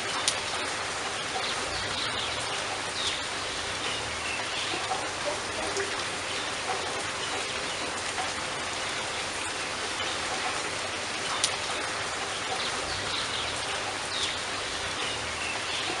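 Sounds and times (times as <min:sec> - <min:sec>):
drops ticking on a surface: 0:00.0 - 0:16.0
steady rain hiss: 0:00.0 - 0:16.0.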